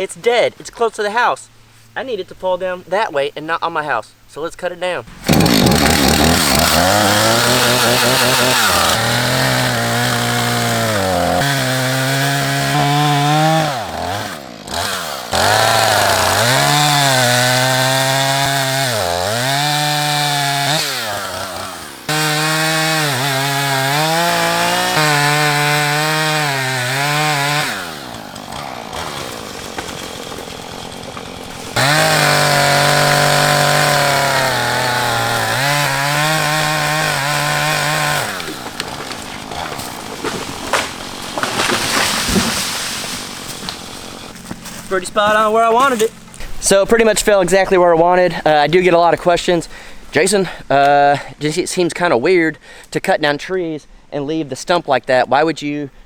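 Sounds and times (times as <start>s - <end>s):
chainsaw cutting wood: 5.1s - 50.3s.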